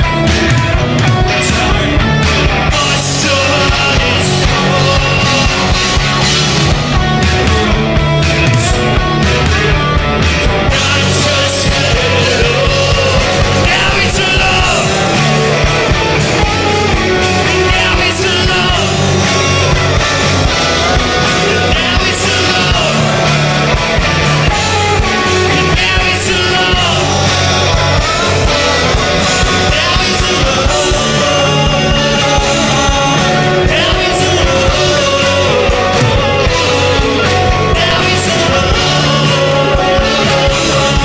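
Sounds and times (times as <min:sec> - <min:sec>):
drums: 0:00.0 - 0:41.0
electric guitar: 0:00.0 - 0:41.0
person singing: 0:00.0 - 0:41.0.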